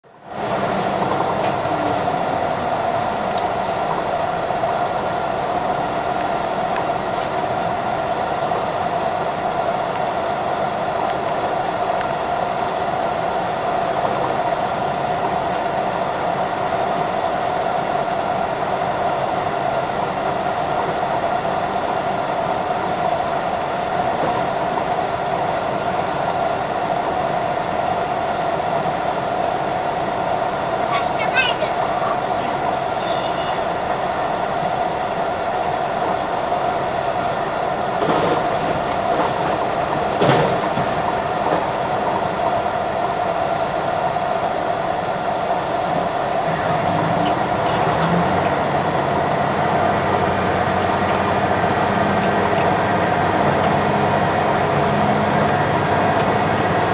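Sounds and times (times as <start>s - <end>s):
diesel railcar running drone: 0.0s - 56.9s.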